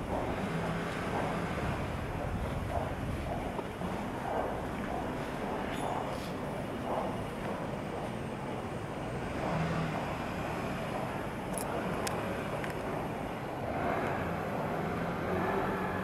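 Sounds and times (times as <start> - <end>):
distant traffic hum: 0.0 - 16.0.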